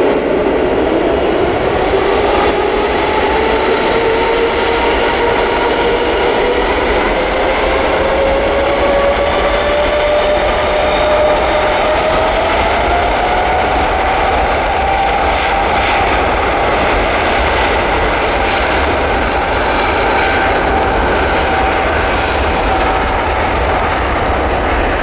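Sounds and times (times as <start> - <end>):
jet engines roaring with whine: 0.0 - 25.0.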